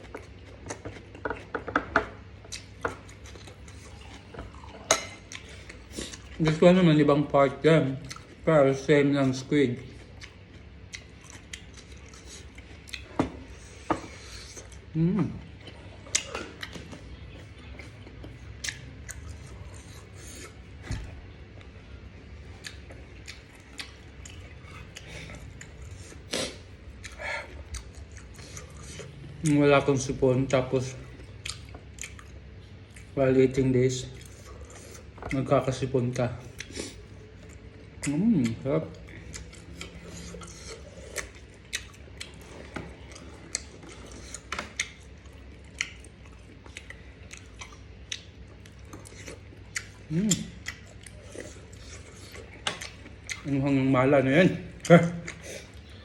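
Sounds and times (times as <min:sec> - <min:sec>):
chewing: 0:00.0 - 0:06.6, 0:08.0 - 0:08.5, 0:09.8 - 0:29.6, 0:30.8 - 0:33.2, 0:34.0 - 0:53.7, 0:54.6 - 0:56.0
low steady hum: 0:00.0 - 0:56.0.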